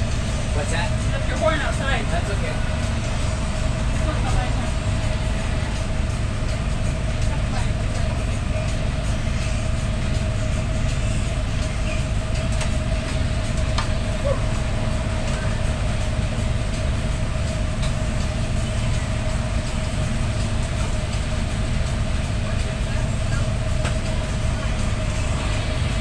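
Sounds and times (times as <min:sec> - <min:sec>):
machinery rumbling drone: 0:00.0 - 0:26.0
mid-pitched hum: 0:00.0 - 0:26.0.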